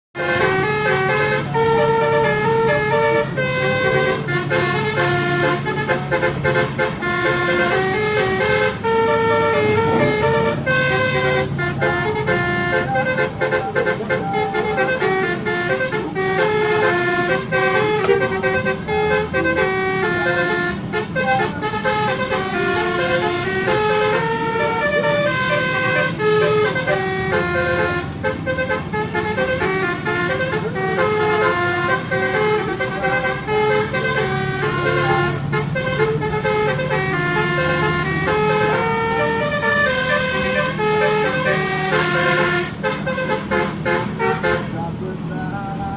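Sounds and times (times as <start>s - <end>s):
bus engine hum: 0.2s - 45.9s
multi-tone bus horn melody: 0.2s - 45.9s.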